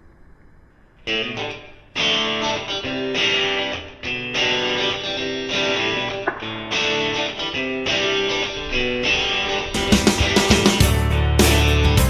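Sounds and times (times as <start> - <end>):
guitar playing chords: 1.0 - 12.0.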